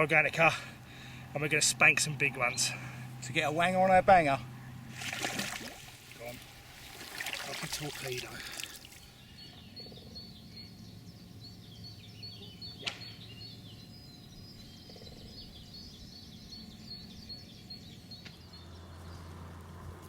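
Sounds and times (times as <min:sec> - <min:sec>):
steady low hum: 0:00.0 - 0:18.6
birds chirping: 0:00.0 - 0:19.3.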